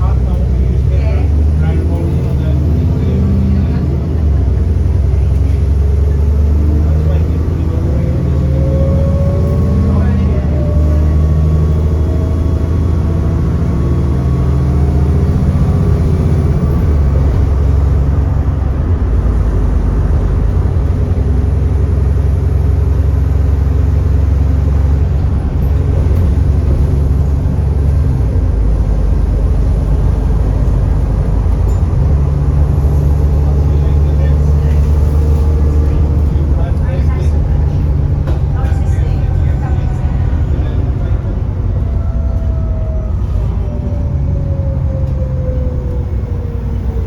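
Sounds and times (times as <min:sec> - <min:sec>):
bus engine droning: 0:00.0 - 0:47.0.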